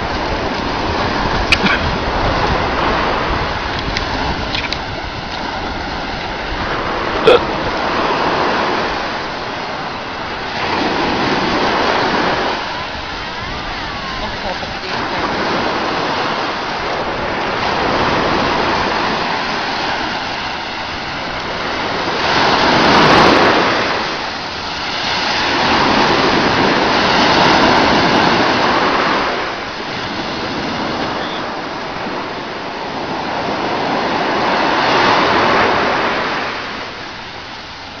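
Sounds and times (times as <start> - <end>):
waves breaking on shore: 0.0 - 38.0.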